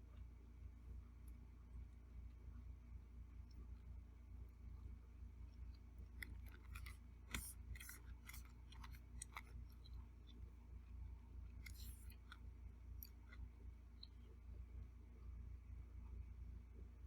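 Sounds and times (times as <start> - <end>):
low steady hum: 0.0 - 17.0
soft eating clicks and crackles: 0.0 - 17.0.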